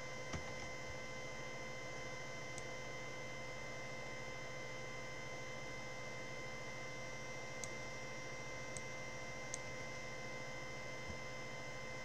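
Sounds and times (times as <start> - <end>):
electrical hum with faint hiss: 0.0 - 12.0.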